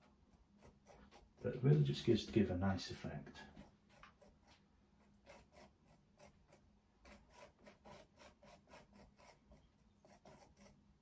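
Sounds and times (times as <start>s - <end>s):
palette knife scraping paint: 0.0s - 1.8s, 3.5s - 11.0s.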